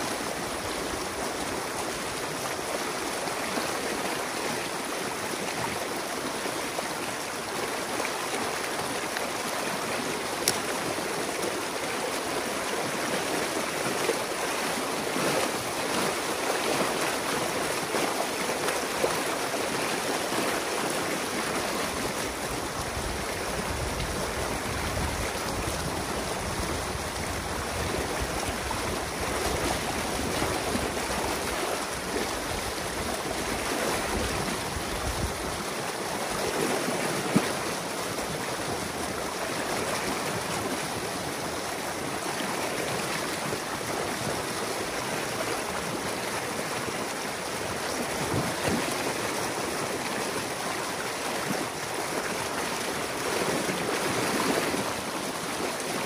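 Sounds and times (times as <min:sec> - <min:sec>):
water rushing and splashing: 0:00.0 - 0:56.0.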